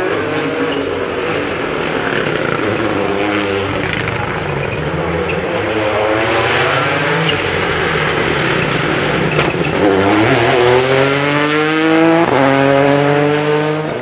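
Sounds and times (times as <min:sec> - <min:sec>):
gear changes: 0:00.0 - 0:14.0
rally car accelerating: 0:00.0 - 0:14.0.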